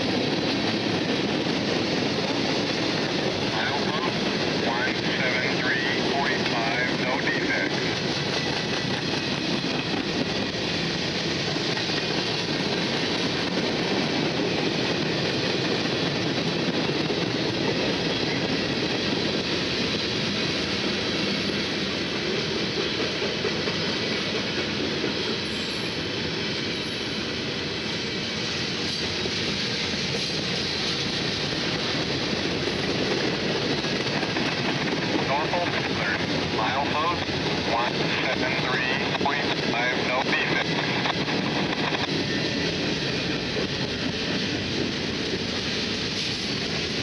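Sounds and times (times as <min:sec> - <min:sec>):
train wheels on rails: 0:00.0 - 0:47.0.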